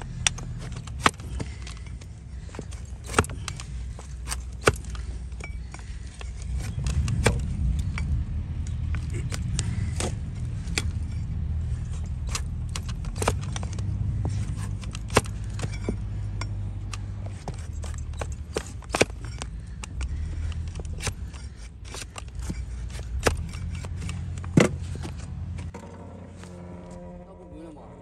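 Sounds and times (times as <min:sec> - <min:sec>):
blade cutting hoof horn: 0:00.0 - 0:28.0
steady low hum: 0:00.0 - 0:28.0.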